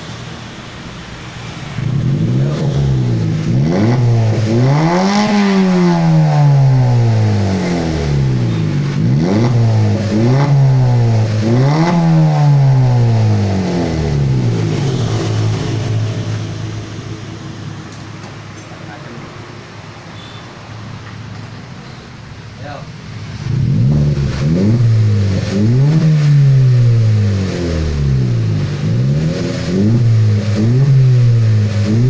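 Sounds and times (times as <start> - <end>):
car engine revving: 0.0 - 20.0, 22.3 - 32.0.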